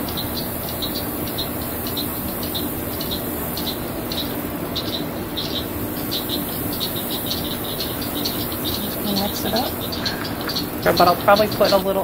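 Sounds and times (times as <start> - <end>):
cicadas calling: 0.0 - 12.0
steady low hum: 0.0 - 12.0.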